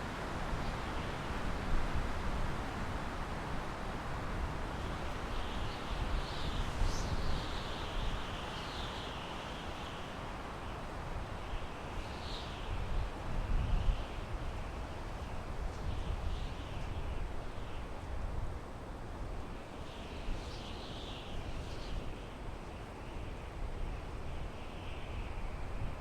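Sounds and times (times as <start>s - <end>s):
wind through pine trees: 0.0s - 26.0s.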